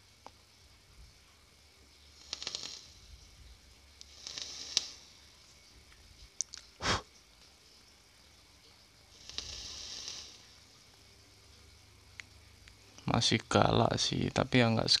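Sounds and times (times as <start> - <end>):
coil crackling and sizzling hiss: 0.0 - 15.0.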